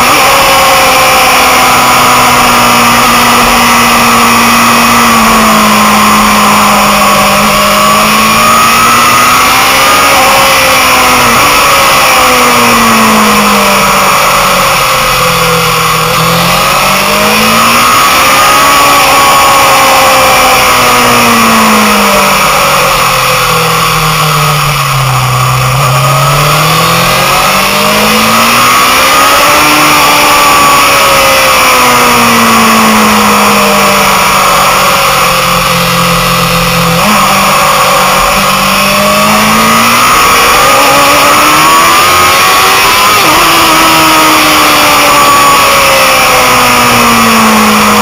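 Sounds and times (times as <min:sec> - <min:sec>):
motorcycle engine at speed: 0:00.0 - 0:48.0.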